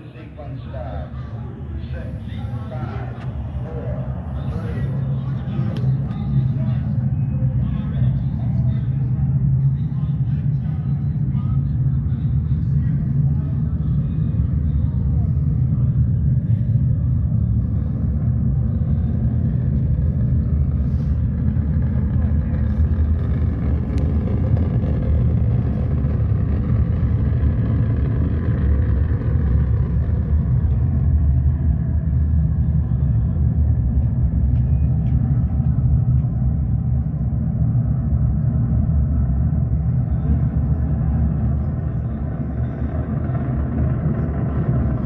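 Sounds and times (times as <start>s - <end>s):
rocket launch rumble over loudspeakers: 0.0s - 45.0s.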